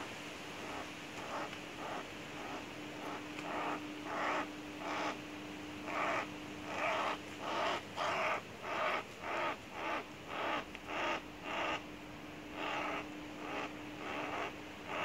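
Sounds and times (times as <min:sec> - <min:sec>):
crow cawing: 0:00.6 - 0:05.2, 0:05.8 - 0:11.8, 0:12.6 - 0:15.0.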